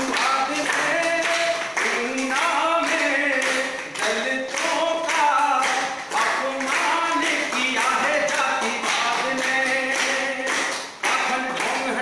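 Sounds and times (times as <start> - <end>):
group clapping in time: 0.0 - 12.0
man singing unaccompanied: 0.0 - 12.0.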